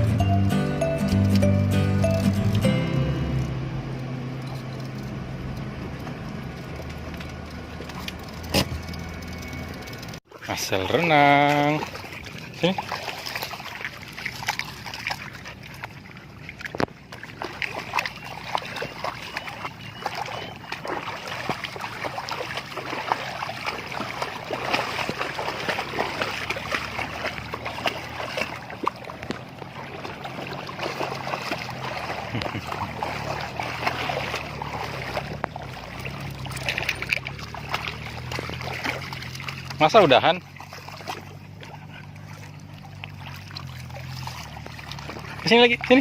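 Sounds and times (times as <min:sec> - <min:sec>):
water splashing and sloshing: 0:00.0 - 0:46.0.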